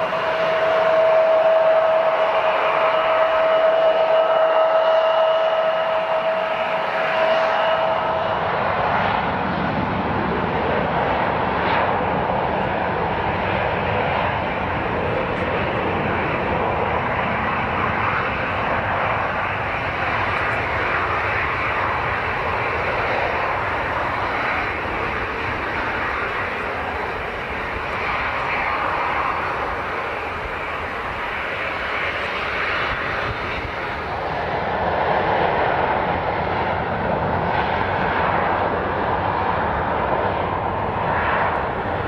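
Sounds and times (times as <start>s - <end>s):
airliner engine rush: 0.0s - 42.0s.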